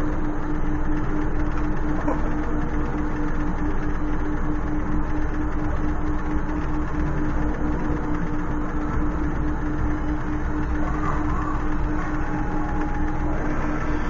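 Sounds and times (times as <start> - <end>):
low pulsing tone: 0.0 - 14.0.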